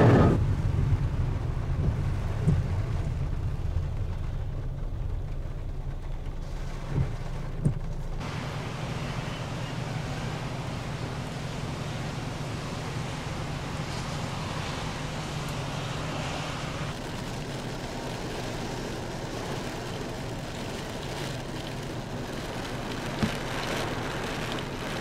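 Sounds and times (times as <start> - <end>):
car road rumble: 0.0 - 25.0
rain hissing: 0.0 - 25.0.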